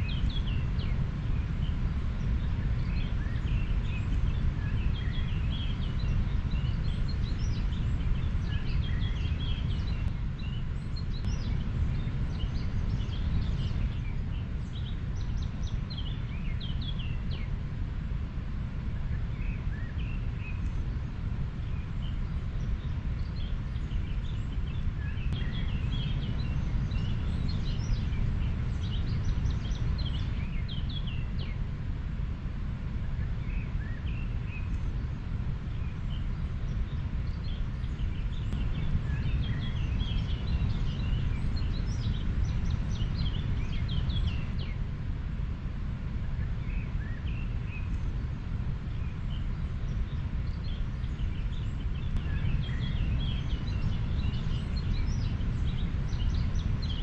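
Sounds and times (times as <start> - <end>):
small birds chirping: 0.0 - 17.9, 18.8 - 32.0, 32.9 - 45.4, 46.1 - 57.0.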